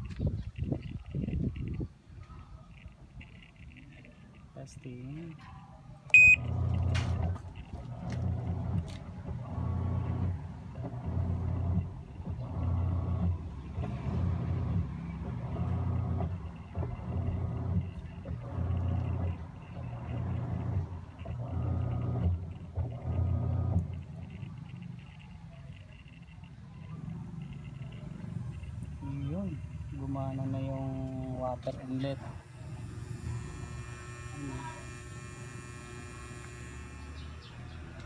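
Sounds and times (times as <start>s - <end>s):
washing machine pulsing hum: 6.1s - 38.0s.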